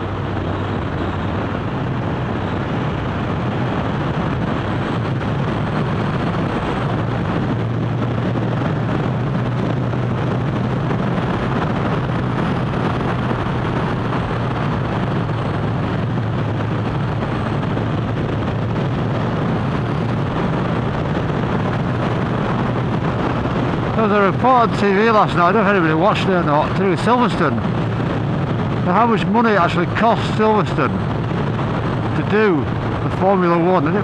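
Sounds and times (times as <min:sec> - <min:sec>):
motorcycle engine cruising: 0:00.0 - 0:34.0
wind and road noise: 0:00.0 - 0:34.0.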